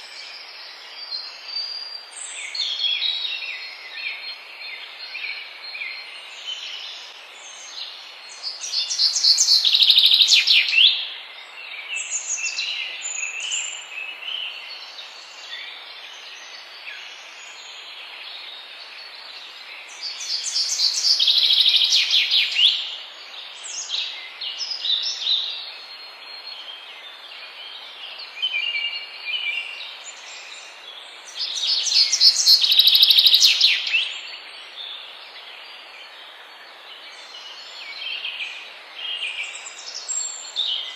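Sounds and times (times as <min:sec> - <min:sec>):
bird singing rapid song: 0:00.0 - 0:40.9
steady background hiss: 0:00.0 - 0:40.9.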